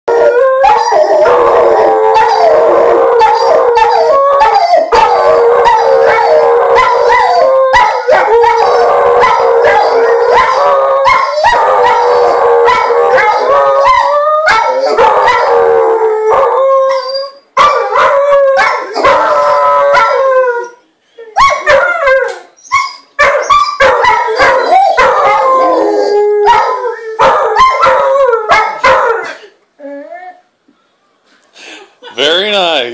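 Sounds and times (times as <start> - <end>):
dogs howling: 0.1 - 30.4.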